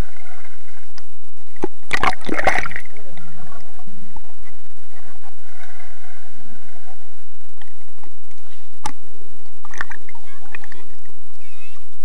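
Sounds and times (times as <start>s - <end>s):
underwater water noise: 0.0s - 12.0s.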